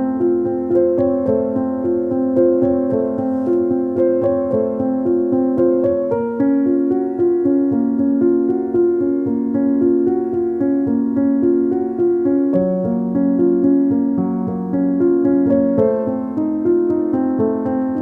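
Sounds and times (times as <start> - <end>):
piano melody over chords: 0.0 - 18.0.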